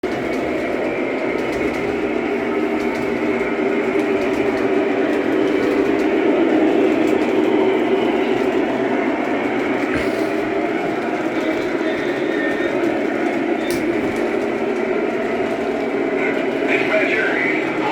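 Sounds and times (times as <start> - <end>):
train rumbling: 0.0 - 17.9.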